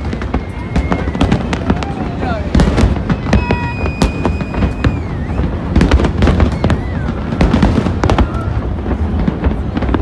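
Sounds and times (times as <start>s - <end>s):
falling firework whistles: 0.0s - 9.0s
fireworks crackling and banging: 0.0s - 10.0s.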